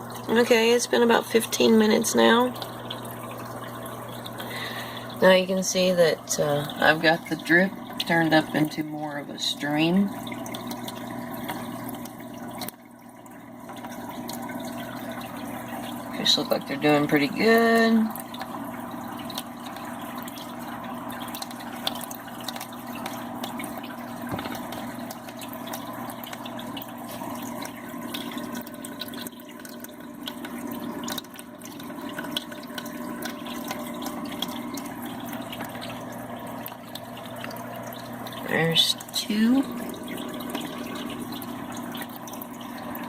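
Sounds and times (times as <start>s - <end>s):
small splashes and drips: 0.0s - 43.0s
steady low hum: 0.0s - 43.0s
thin stream of running water: 0.0s - 43.0s.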